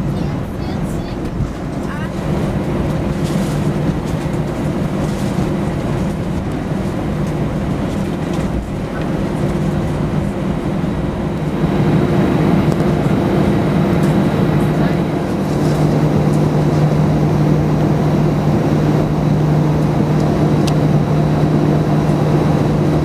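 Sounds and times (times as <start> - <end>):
jet engines droning in cabin: 0.0 - 23.0.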